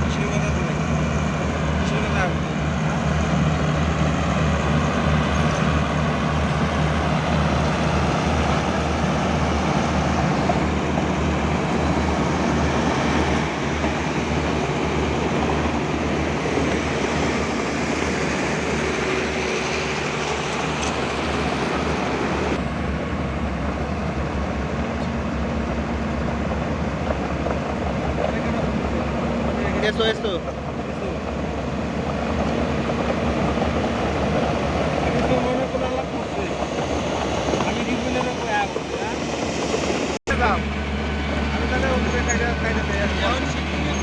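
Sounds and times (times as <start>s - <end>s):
excavator diesel engines rumbling: 0.0s - 44.0s.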